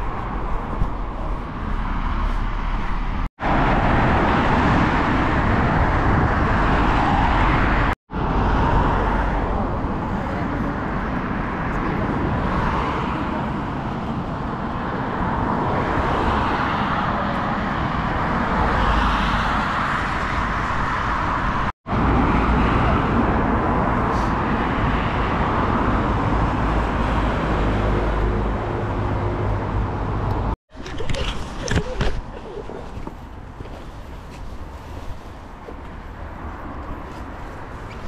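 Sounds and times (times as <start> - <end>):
cars passing on busy road: 0.0 - 38.0.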